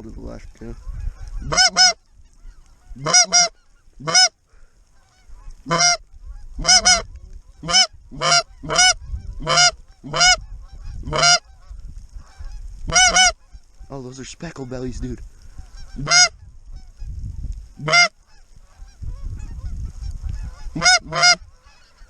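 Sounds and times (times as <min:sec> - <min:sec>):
low wind rumble: 0:00.0 - 0:22.0
geese yelping calls: 0:00.8 - 0:14.0, 0:15.5 - 0:17.1, 0:17.8 - 0:22.0.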